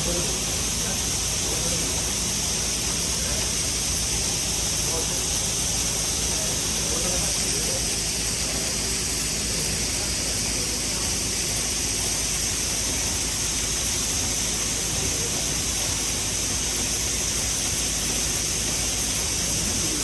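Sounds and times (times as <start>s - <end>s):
low machinery hum: 0.0s - 20.0s
machinery hiss: 0.0s - 20.0s.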